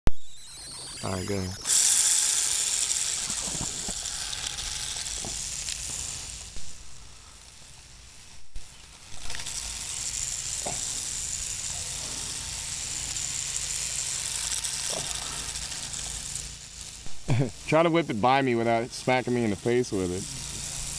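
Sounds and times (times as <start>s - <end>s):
rc car motor and tyres hissing: 0.2s - 20.9s.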